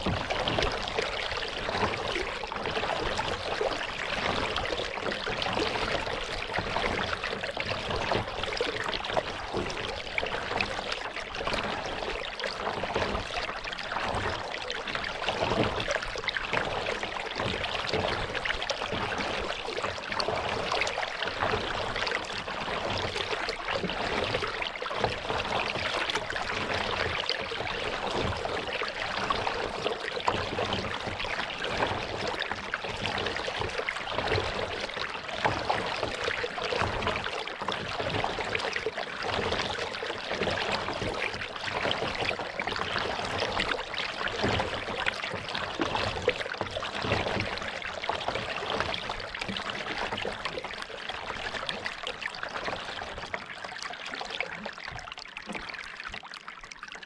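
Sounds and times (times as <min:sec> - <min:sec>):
paddle splashing water: 0:00.0 - 0:57.0.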